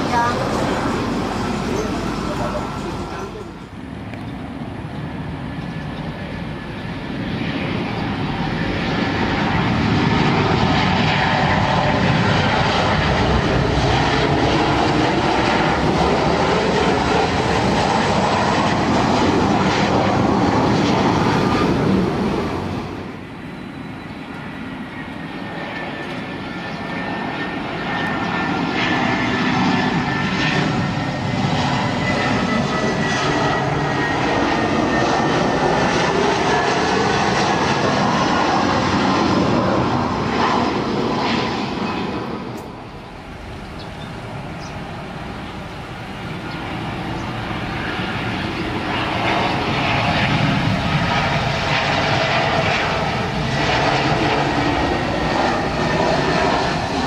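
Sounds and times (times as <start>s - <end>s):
faint steady engine whine: 0.0s - 57.0s
jet engines roaring: 0.0s - 57.0s.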